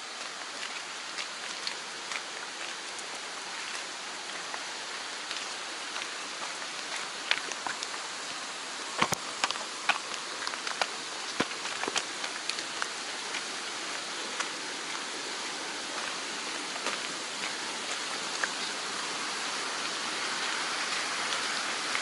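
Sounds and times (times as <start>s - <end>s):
hiss of water: 0.0s - 22.0s.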